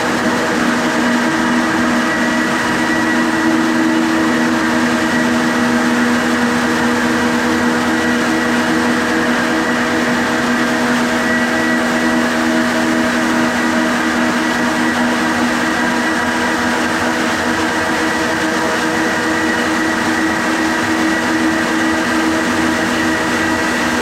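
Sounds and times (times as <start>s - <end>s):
floor sander motor hum and whine: 0.0s - 24.0s.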